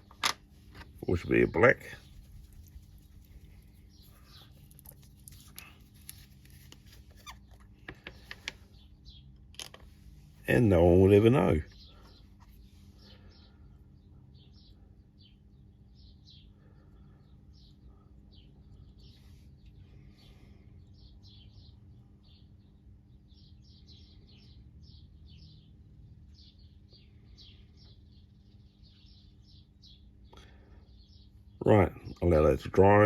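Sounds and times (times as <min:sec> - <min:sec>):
faint birds chirping: 0:00.0 - 0:33.0
low steady hum: 0:00.0 - 0:33.0.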